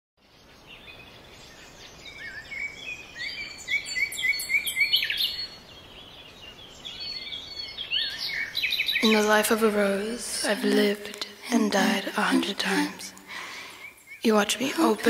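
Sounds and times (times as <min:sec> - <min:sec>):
songbirds singing and chirping: 0:00.2 - 0:15.0.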